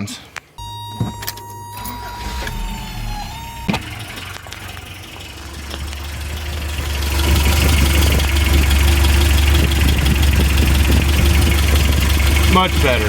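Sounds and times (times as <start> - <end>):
car engine idling: 0.6 - 13.0.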